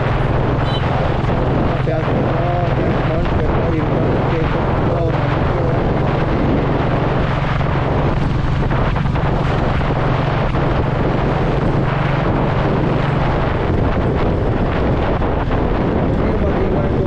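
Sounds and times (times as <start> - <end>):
motorcycle engine running: 0.0 - 17.0
wind on microphone: 0.0 - 17.0.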